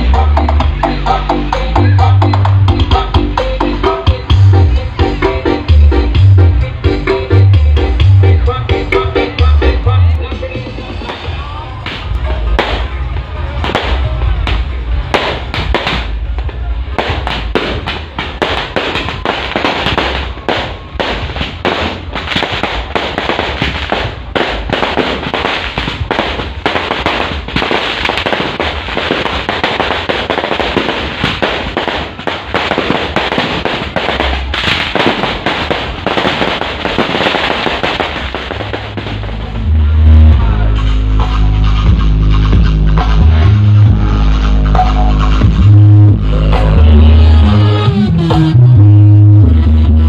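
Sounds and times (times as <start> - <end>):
firecrackers crackling: 0.0 - 48.6
bass-heavy music: 0.0 - 50.0.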